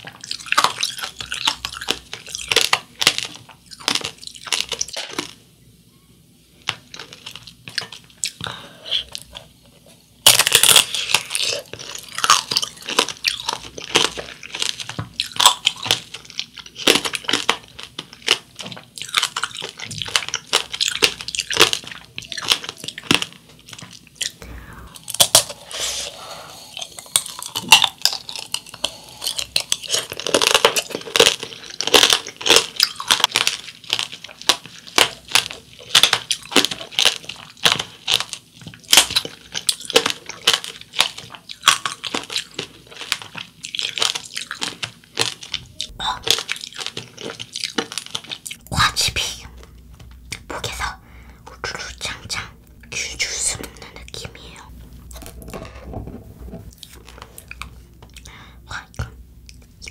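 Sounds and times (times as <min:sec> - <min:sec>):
crunching and chewing candy: 0:00.0 - 0:05.4, 0:06.5 - 0:59.9.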